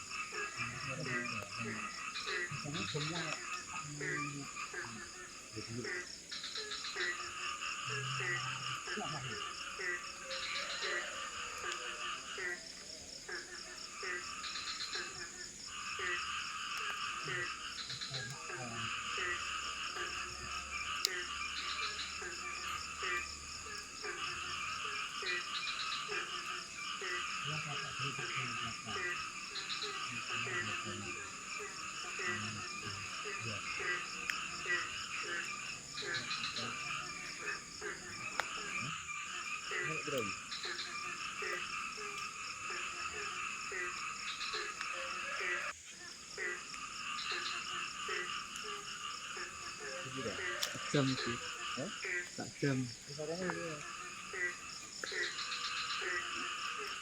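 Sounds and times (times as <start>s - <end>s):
frogs calling: 0.0s - 57.0s.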